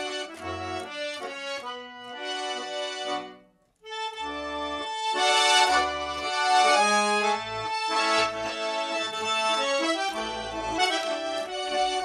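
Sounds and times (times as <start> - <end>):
button accordion melody: 0.0 - 12.0.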